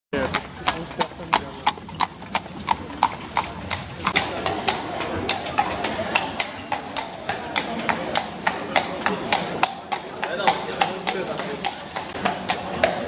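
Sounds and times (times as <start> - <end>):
crowd chatter: 0.2 - 13.0
horse hooves clip-clopping on cobblestones: 0.2 - 13.0.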